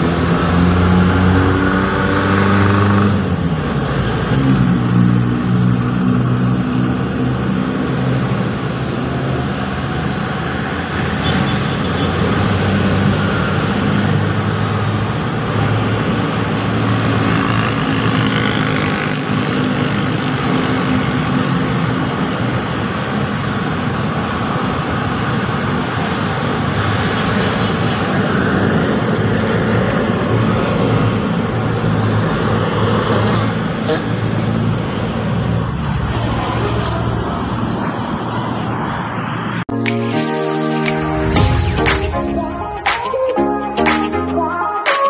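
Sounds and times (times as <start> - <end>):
cars and motorcycles passing: 0.0 - 43.4.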